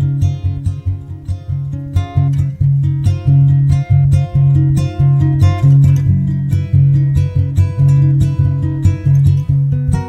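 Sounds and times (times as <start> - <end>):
acoustic guitar plucked and strummed: 0.0 - 10.0.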